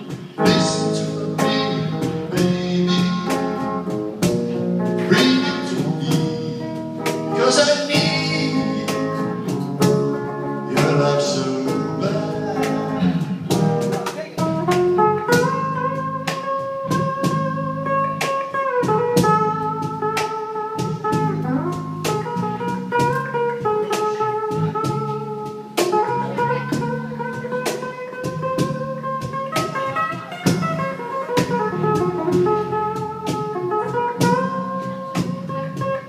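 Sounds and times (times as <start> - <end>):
live blues band playing: 0.0 - 36.0.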